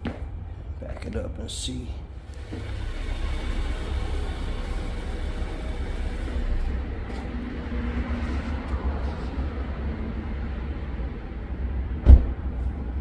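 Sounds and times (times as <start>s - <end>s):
car engine rumbling: 0.4s - 13.0s.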